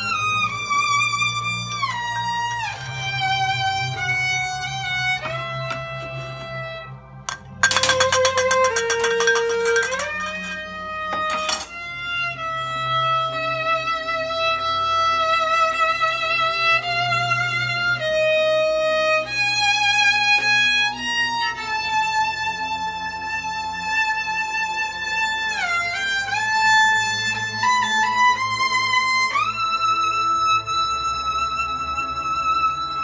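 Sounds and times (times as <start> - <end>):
solo violin: 0.0 - 33.0.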